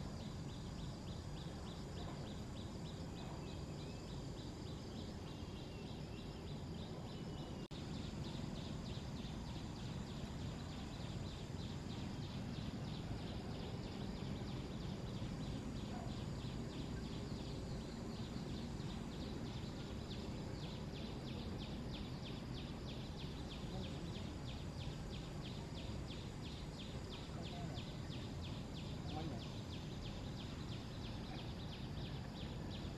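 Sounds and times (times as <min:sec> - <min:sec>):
insects chirring: 0:00.0 - 0:32.9
low background noise: 0:00.0 - 0:32.9.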